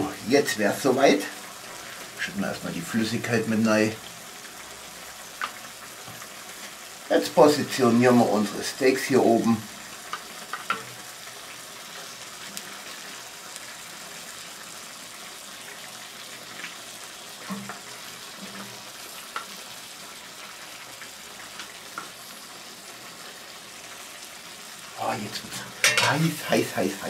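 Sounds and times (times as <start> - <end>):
steaks sizzling in a pot: 0.0 - 27.0.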